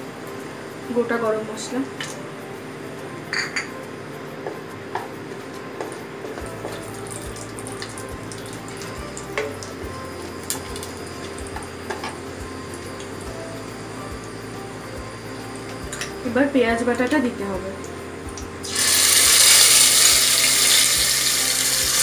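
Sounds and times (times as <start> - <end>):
spices sizzling in oil: 0.0 - 22.0.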